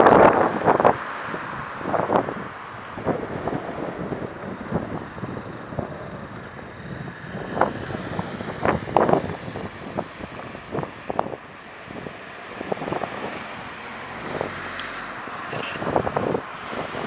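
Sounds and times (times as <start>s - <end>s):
passing road traffic: 0.0s - 17.0s
wind buffeting microphone: 0.0s - 17.0s.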